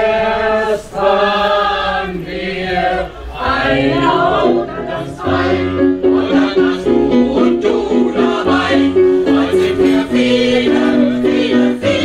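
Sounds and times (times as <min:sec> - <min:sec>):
choir singing long notes: 0:00.0 - 0:12.0.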